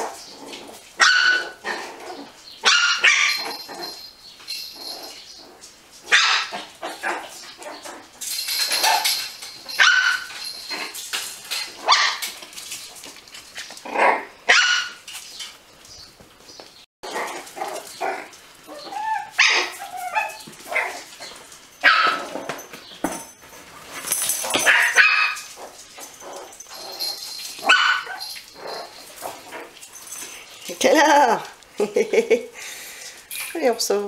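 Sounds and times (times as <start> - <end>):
puppies barking and yipping: 0.0 - 31.2.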